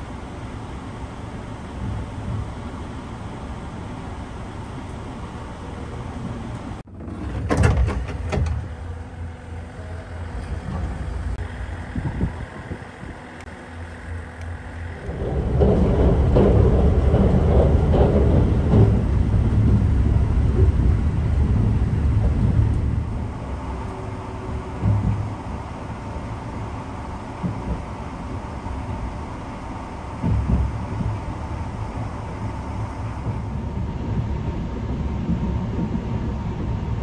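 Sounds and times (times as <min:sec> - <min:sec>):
train running on rails: 0:00.0 - 0:37.0.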